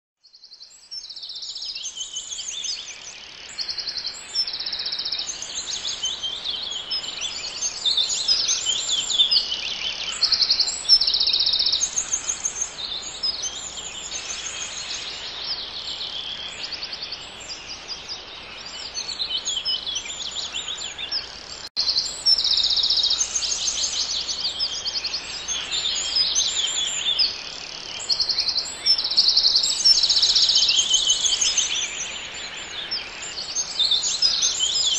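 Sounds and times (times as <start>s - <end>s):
songbirds singing: 0.2s - 34.9s.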